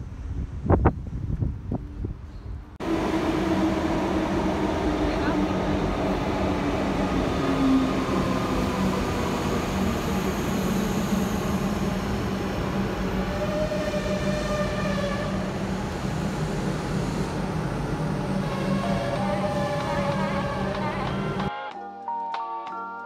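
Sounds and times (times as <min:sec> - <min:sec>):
train wheels rumbling on rail: 0:00.0 - 0:21.5
train whine: 0:01.7 - 0:21.5.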